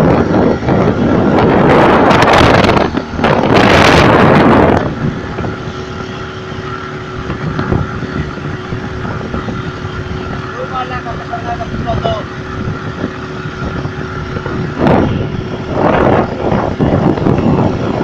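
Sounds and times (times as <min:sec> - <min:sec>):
motorboat engine running: 0:00.0 - 0:18.0
water noise: 0:00.0 - 0:18.0
wind rushing over microphone: 0:00.0 - 0:18.0.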